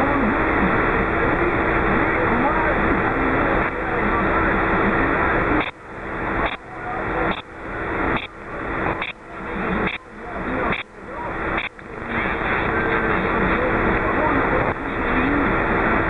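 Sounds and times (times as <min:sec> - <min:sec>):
pulsing radio static hiss: 0:00.0 - 0:16.0.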